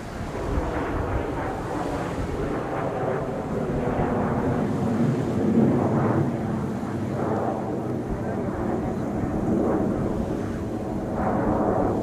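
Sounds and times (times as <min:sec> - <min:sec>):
jet aircraft flying overhead: 0:00.0 - 0:12.0.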